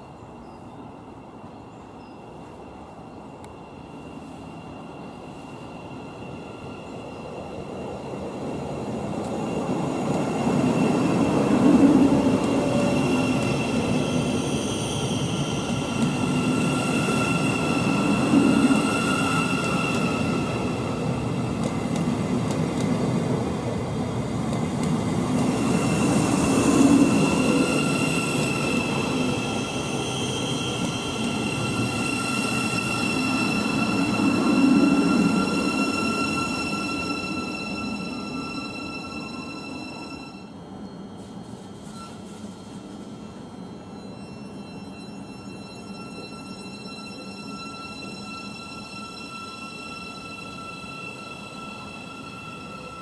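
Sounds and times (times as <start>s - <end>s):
train wheels on rail: 2.3s - 53.0s.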